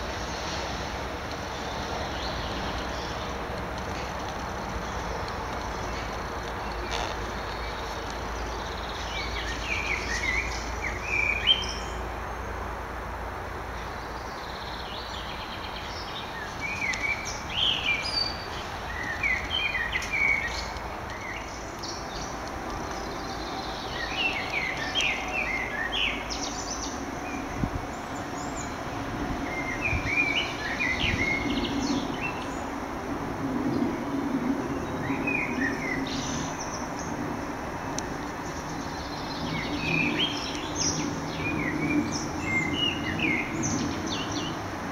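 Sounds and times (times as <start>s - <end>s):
songbird chirping: 0.0s - 12.7s, 13.8s - 32.8s, 33.6s - 44.6s
outdoor background hiss: 0.0s - 44.9s.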